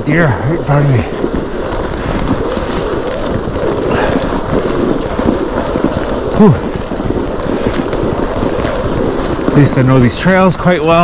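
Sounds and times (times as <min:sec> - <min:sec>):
bike tires crunching on snow: 0:00.0 - 0:11.0
wind on microphone: 0:00.0 - 0:11.0.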